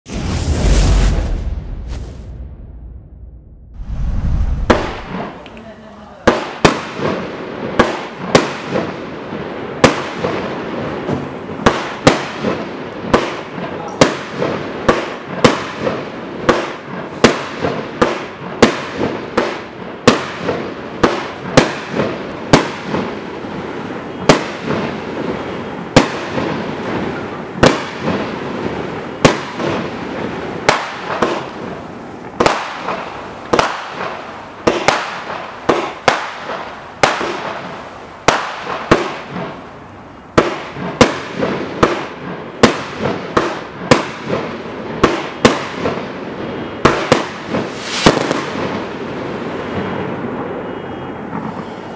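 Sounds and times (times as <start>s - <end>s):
fireworks banging: 0.0s - 51.9s.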